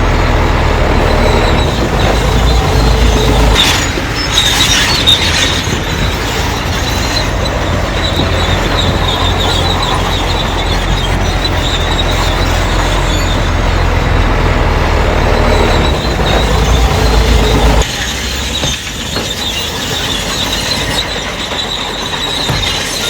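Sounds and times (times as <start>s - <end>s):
diesel engine under load: 0.0s - 23.0s
steel tracks squealing: 0.0s - 23.0s.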